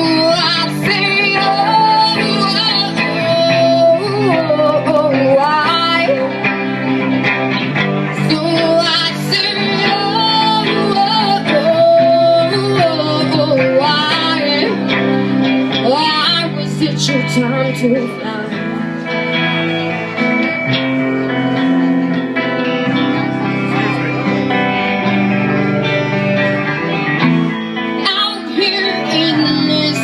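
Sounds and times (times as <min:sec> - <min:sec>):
rock band playing: 0:00.0 - 0:30.0
wavering lead guitar melody: 0:00.0 - 0:30.0.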